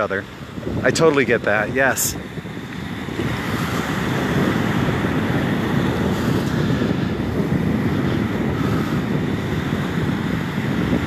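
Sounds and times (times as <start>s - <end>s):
small waves washing ashore: 0.0s - 11.0s
wind noise on microphone: 0.0s - 11.0s.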